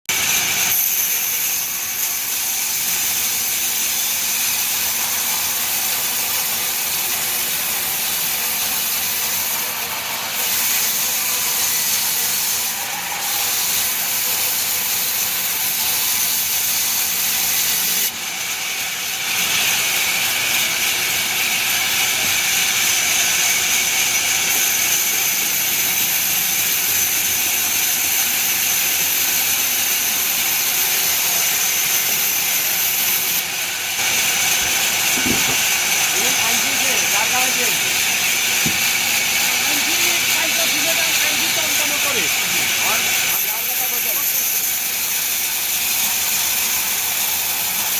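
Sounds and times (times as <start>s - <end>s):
sawmill saw whining: 0.1s - 47.9s.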